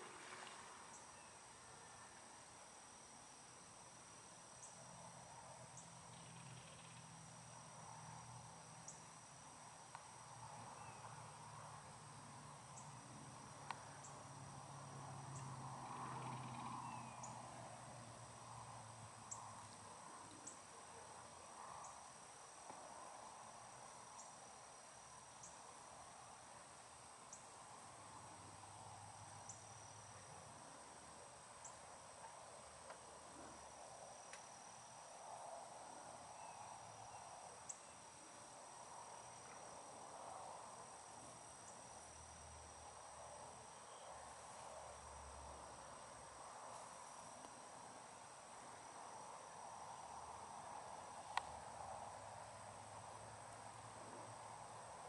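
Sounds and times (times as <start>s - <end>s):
crickets trilling: 0.0s - 55.0s
soft background hiss: 0.0s - 55.0s.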